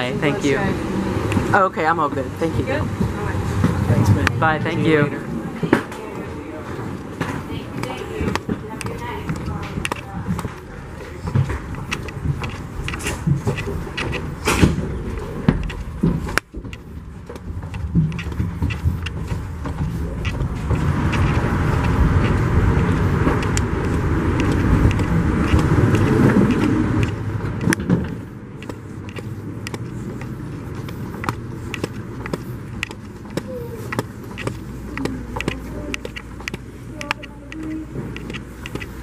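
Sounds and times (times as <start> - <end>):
footsteps: 0.0 - 39.0
steady rumble: 0.0 - 39.0.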